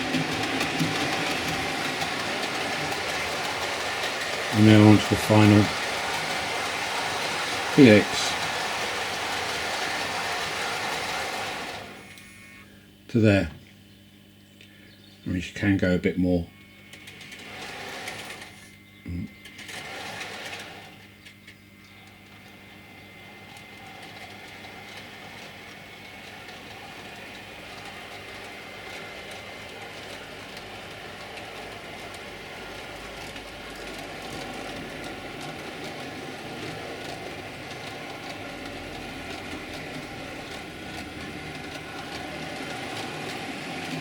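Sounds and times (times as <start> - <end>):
wheels clicking on rails: 0.0 - 12.5, 15.4 - 44.0
model train motor whine: 0.0 - 12.8, 15.4 - 44.0.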